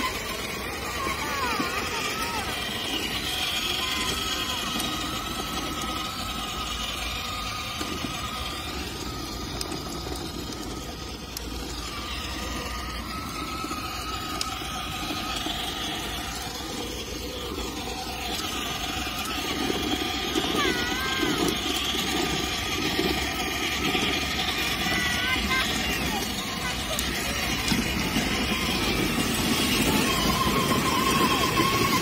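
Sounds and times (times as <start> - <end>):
plastic wheels rumbling over paving: 0.0 - 32.0
small electric motor whirring: 0.0 - 32.0.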